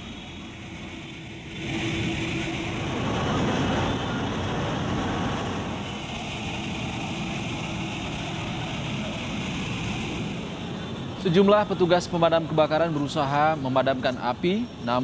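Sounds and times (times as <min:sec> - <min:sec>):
engine noise: 0:00.0 - 0:15.0
street noise: 0:00.0 - 0:15.0.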